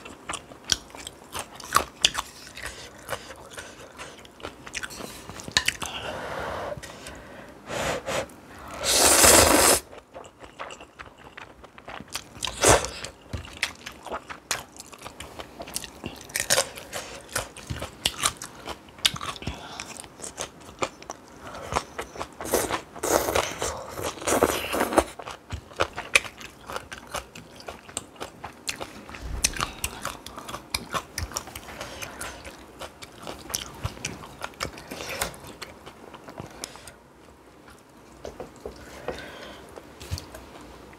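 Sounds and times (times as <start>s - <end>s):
chewing and crunching: 0.0s - 5.9s, 9.9s - 38.9s.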